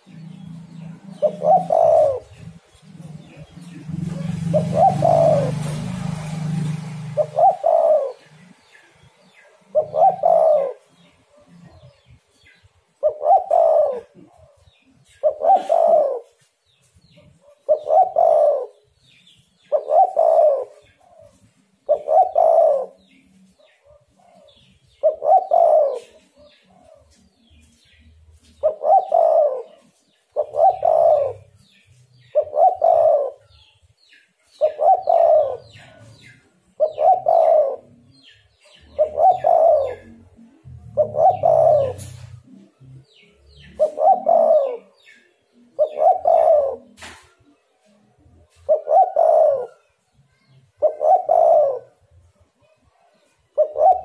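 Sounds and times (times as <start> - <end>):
dove cooing: 0.0 - 33.8, 34.4 - 47.2, 48.4 - 52.1, 53.2 - 54.0.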